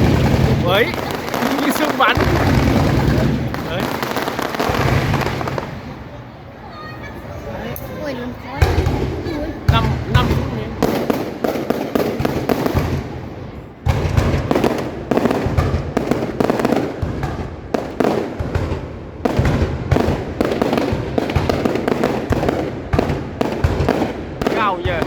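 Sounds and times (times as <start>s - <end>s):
fireworks bangs and crackling: 0.0s - 6.7s, 7.8s - 25.0s.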